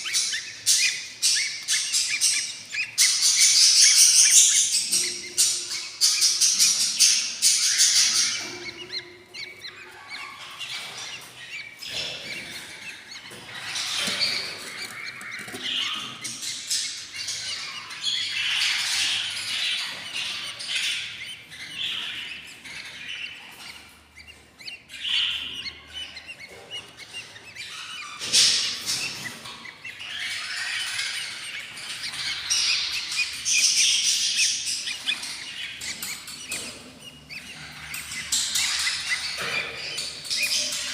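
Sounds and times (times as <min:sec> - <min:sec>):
chicks cheeping: 0:00.0 - 0:40.9.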